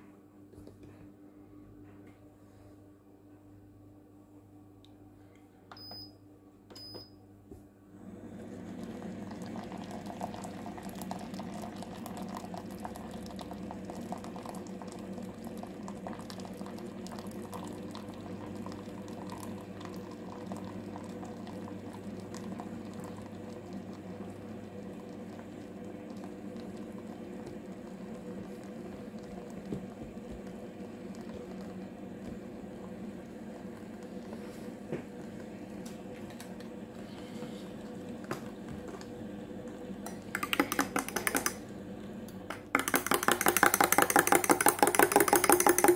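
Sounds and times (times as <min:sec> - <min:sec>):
dispenser hum: 0:00.0 - 0:45.9
hot water pouring and bubbling: 0:08.1 - 0:41.7, 0:42.5 - 0:45.9.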